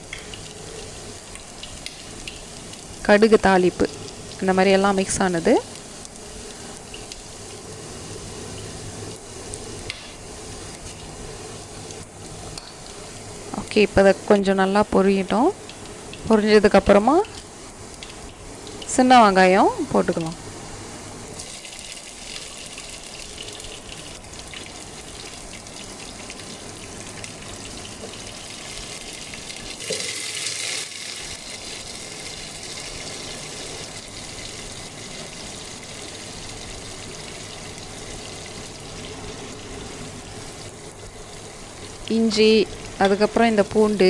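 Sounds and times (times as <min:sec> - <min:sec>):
shallots sizzling in hot oil: 0:00.0 - 0:20.5, 0:21.4 - 0:44.0.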